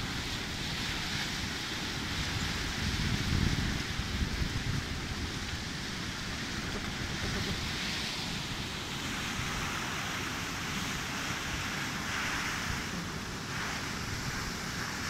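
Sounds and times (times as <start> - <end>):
rushing meltwater and hail: 0.0 - 15.0
wind rumble on microphone: 0.0 - 15.0.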